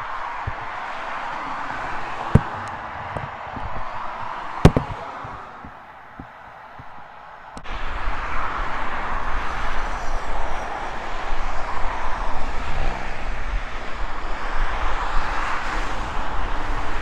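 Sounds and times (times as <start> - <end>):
steady rushing roar: 0.0 - 17.0.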